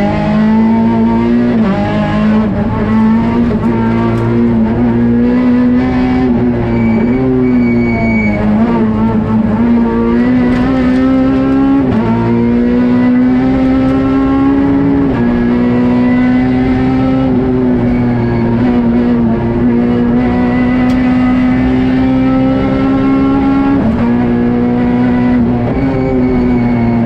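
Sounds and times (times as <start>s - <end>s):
car engine running hard: 0.0s - 27.0s.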